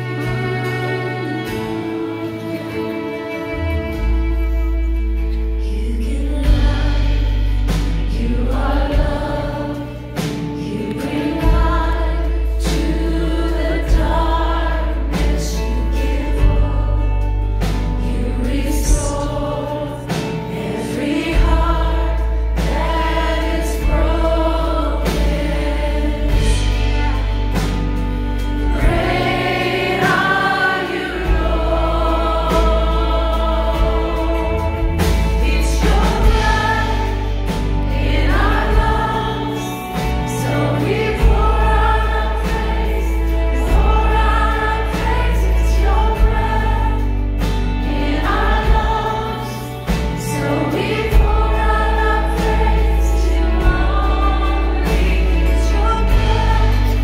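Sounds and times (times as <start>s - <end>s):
band playing worship song: 0.0s - 57.0s
deep bass notes: 3.5s - 57.0s.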